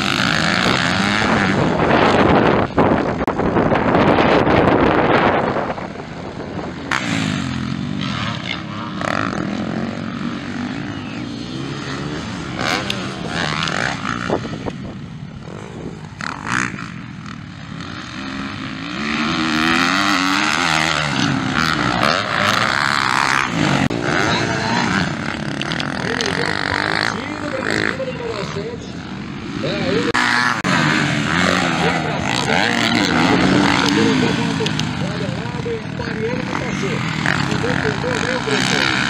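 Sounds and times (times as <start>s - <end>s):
motocross bike engines revving: 0.0s - 39.0s.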